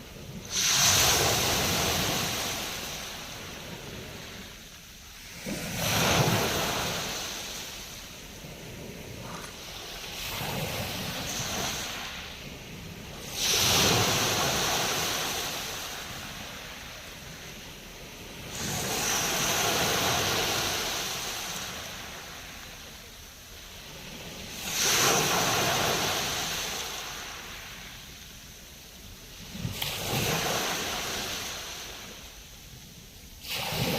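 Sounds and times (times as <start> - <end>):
sea waves breaking: 0.0 - 22.8, 23.6 - 28.1, 29.3 - 32.3, 33.4 - 33.9.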